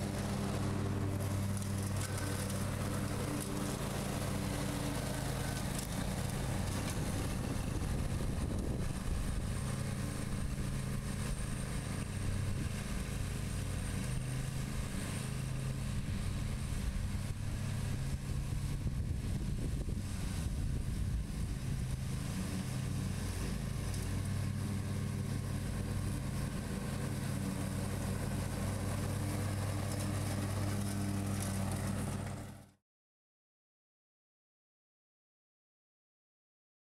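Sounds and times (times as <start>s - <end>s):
lawn mower engine running: 0.0s - 32.8s
mower blades cutting grass: 0.0s - 32.8s.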